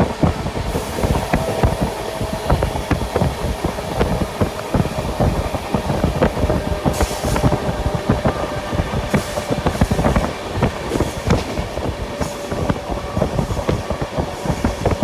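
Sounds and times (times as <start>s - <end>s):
rumbling background: 0.0s - 15.0s
train wheels clattering over rails: 0.0s - 15.0s.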